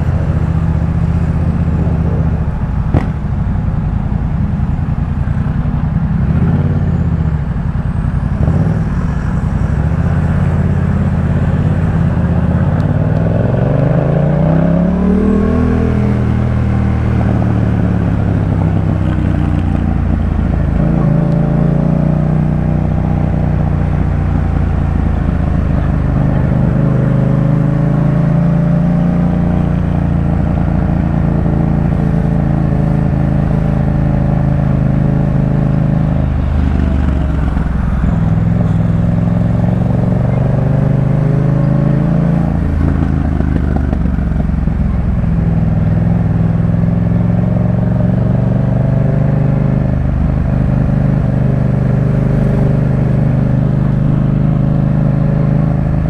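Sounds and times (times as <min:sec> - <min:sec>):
motorcycle engine revving: 0:05.4 - 0:56.0.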